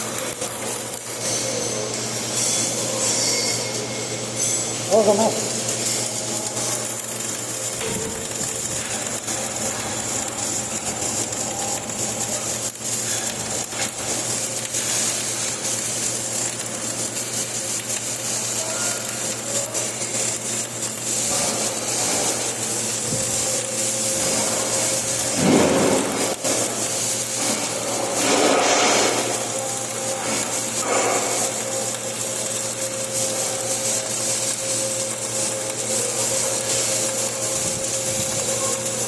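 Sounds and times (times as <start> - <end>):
welding arc crackling: 0.0 - 39.0.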